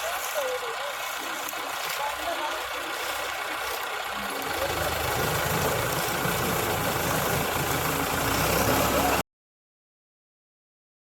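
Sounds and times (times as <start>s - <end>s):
harvester engine running: 0.0s - 9.2s.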